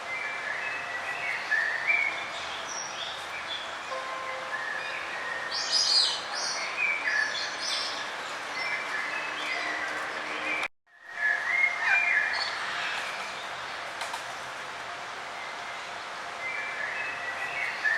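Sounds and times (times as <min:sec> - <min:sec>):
songbirds chirping: 0:00.0 - 0:17.9
steady background noise: 0:00.0 - 0:17.9.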